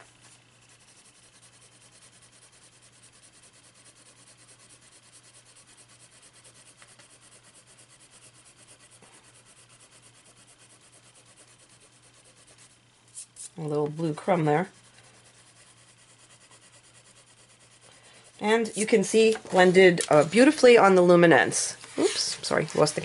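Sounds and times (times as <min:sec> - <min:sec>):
pencil rubbing on paper: 0:00.0 - 0:20.5.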